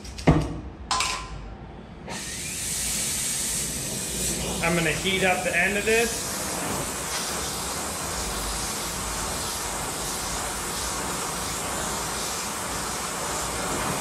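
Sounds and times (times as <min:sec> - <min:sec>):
gas torch flame hissing: 0:02.1 - 0:14.0.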